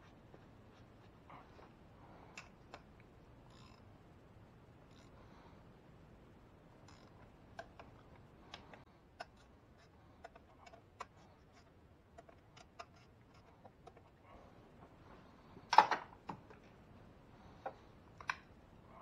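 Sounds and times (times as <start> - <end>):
low room noise: 0.0 - 19.0.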